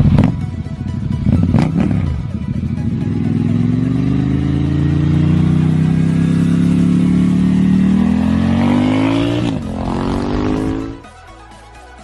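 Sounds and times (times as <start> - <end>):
vehicle engine accelerating hard: 1.2 - 11.1.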